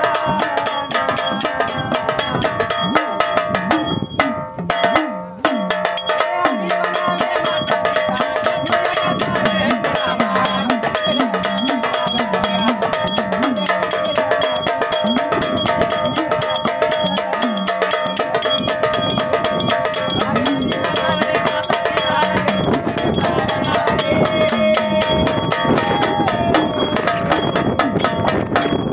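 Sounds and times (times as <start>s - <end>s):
bell-like metal percussion: 0.0s - 28.9s
drum beat: 0.0s - 28.9s.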